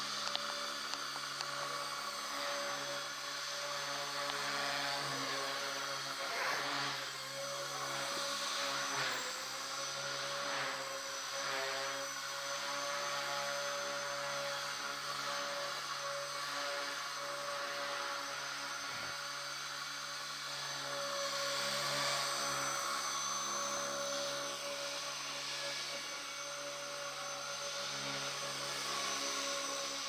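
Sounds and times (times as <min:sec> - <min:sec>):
rc helicopter rotor whine: 0:00.0 - 0:30.0.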